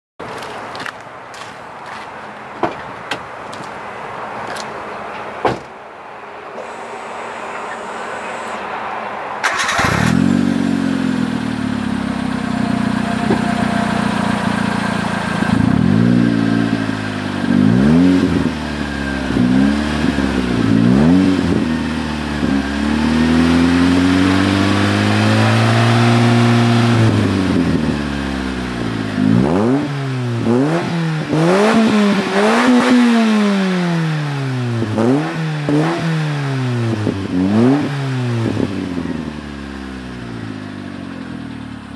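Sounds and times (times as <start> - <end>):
car engine idling and revving: 3.4 - 41.9.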